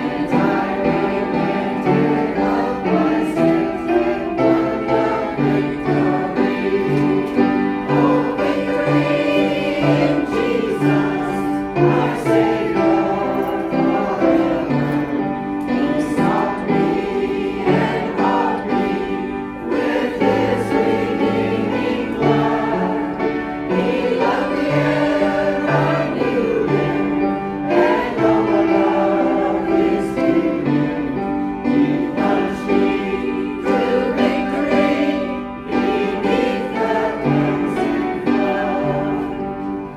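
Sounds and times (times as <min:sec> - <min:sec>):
choir singing: 0:00.0 - 0:39.9
instrumental accompaniment: 0:00.0 - 0:39.9.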